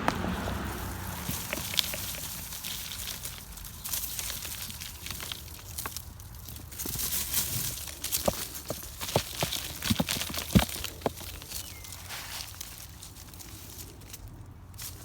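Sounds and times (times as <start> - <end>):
hands digging through soil: 0.0 - 15.0.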